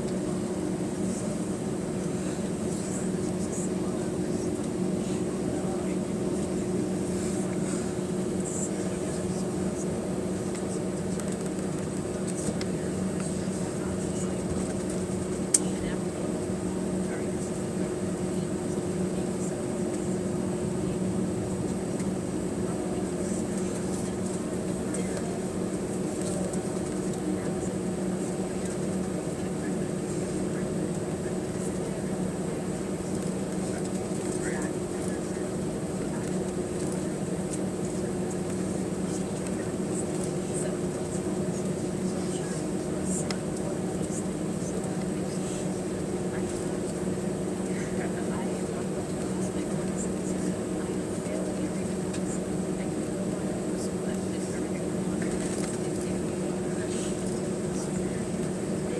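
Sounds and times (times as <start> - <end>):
airplane cabin engine drone: 0.0 - 58.9.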